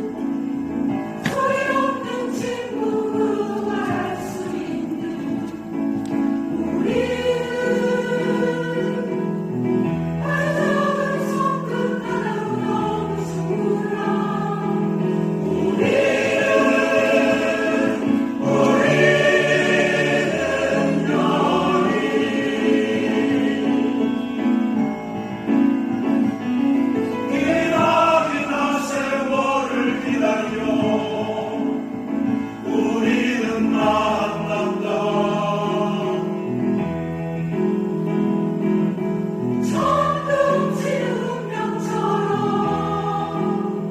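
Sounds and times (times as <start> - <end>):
choir singing with accompaniment: 0.0 - 43.9.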